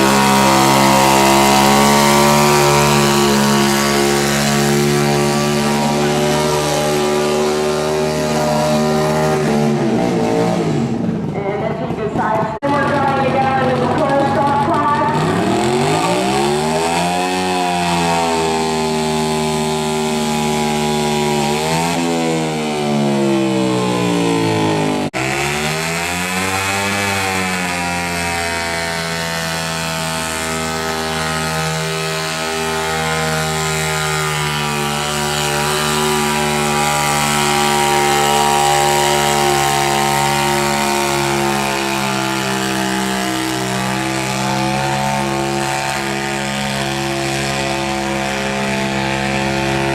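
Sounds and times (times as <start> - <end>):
garden tractor engine running hard: 0.0 - 11.6, 12.2 - 49.9.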